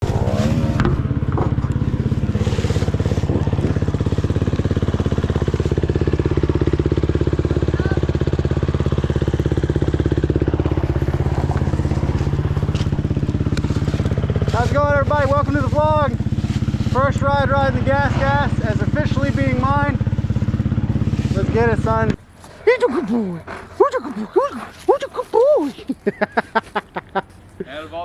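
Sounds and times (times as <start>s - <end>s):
dirt bike engine idling: 0.0s - 28.0s.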